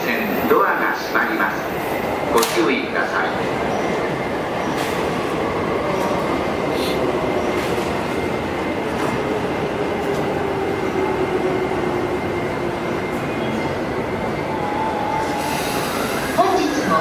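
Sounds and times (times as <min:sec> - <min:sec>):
train hum and rumble: 0:00.0 - 0:17.0.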